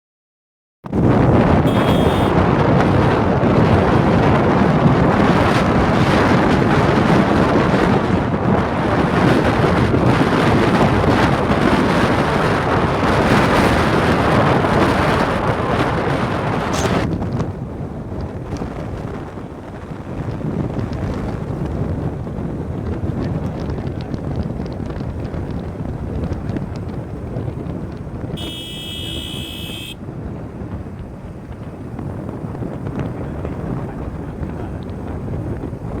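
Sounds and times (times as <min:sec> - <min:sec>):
strong wind buffeting microphone: 0:00.8 - 0:36.0.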